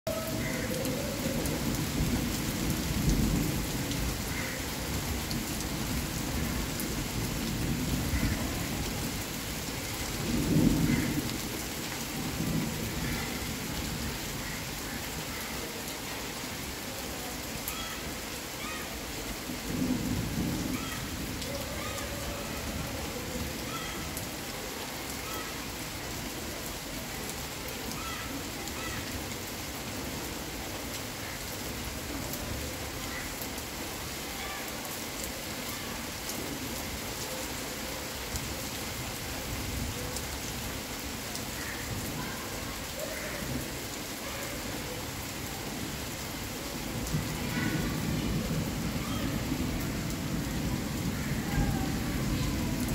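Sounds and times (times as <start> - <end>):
heavy rain on water and leaves: 0.1 - 52.9.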